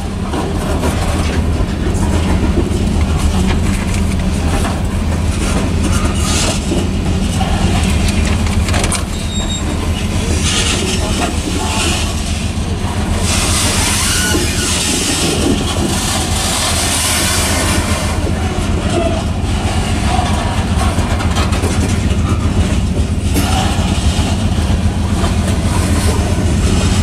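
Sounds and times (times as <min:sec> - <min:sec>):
steel wheels rumbling on rails: 0:00.0 - 0:27.0.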